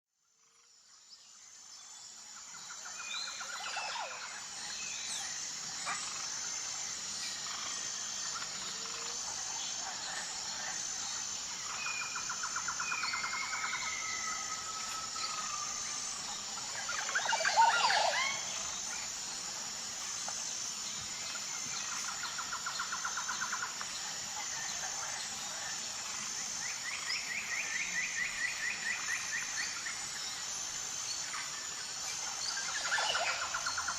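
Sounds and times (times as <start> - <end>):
steady high-pitched buzz: 0.2 - 33.9.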